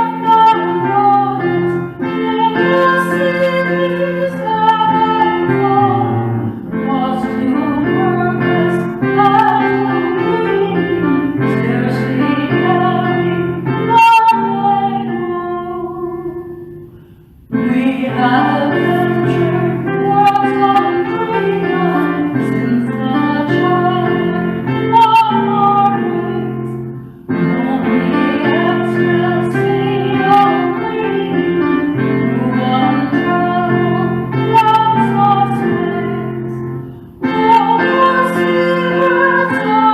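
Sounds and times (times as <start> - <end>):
woman singing worship song: 0.0 - 16.6, 17.5 - 39.9.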